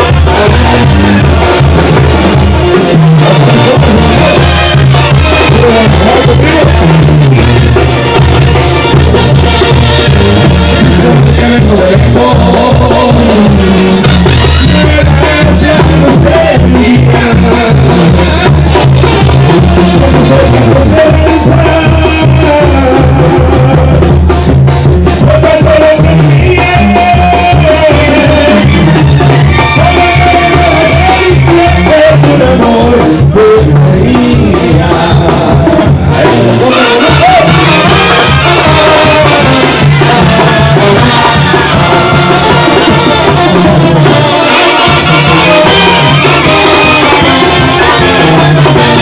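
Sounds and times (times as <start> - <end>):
person singing into a microphone: 0.0 - 8.2, 10.0 - 49.0
brass band music: 0.0 - 49.0.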